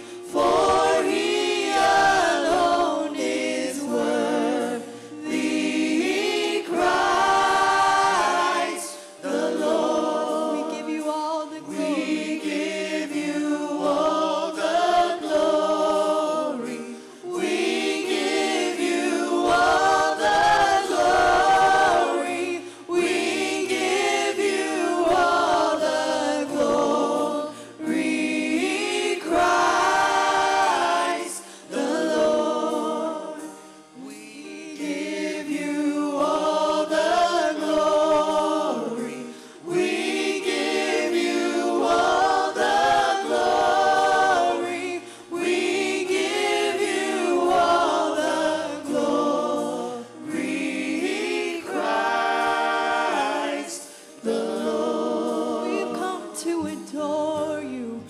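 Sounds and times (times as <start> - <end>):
group singing slow worship song: 0.0 - 58.0.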